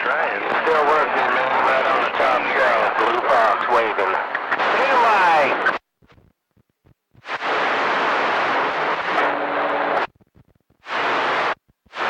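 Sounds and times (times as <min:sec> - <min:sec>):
radio static bursts: 0:00.0 - 0:05.8, 0:07.2 - 0:10.1, 0:10.8 - 0:12.0.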